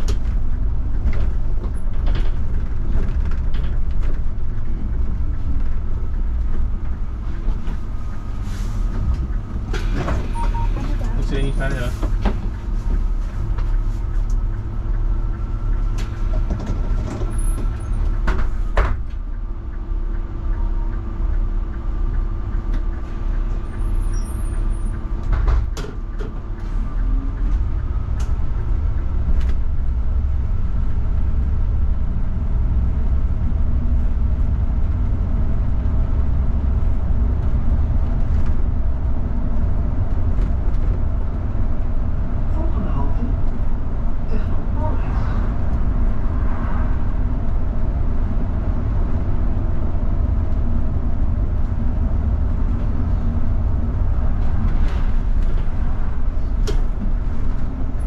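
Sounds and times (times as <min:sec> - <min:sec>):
bus driving low rumble: 0:00.0 - 0:58.0
bus engine idling with whine: 0:00.0 - 0:58.0.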